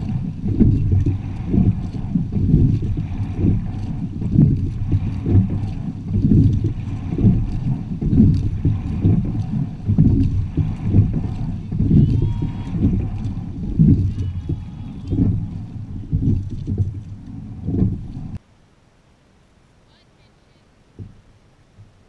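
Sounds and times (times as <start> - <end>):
wind buffeting microphone: 0.0 - 18.4
water rushing along hull: 0.0 - 22.0.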